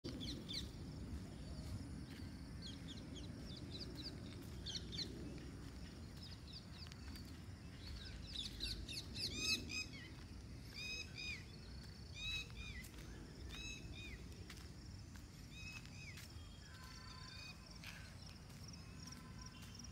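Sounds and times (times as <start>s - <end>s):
low outdoor rumble: 0.1s - 19.9s
small birds chirping: 0.1s - 19.9s.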